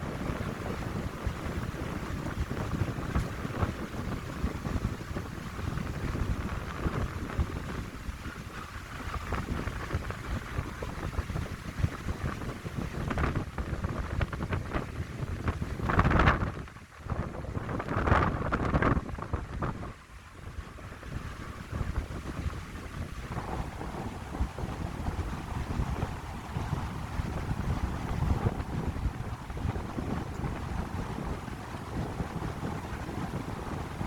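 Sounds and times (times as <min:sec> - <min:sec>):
wind blowing through pines: 0:00.0 - 0:34.0
wind buffeting microphone: 0:00.0 - 0:34.0.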